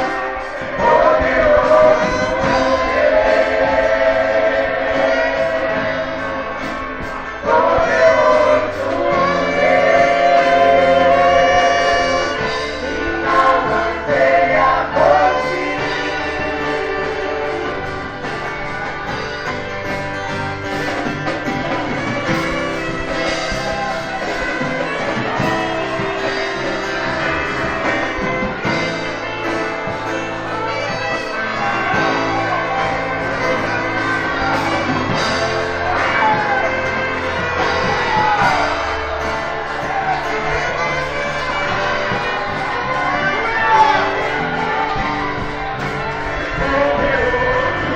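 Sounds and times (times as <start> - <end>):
instrumental accompaniment: 0.0 - 47.9
vocal group singing in harmony: 0.0 - 47.9.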